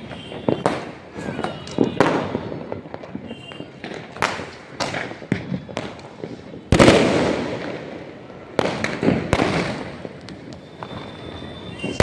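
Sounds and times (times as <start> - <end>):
fireworks and firecrackers banging: 0.0 - 12.0.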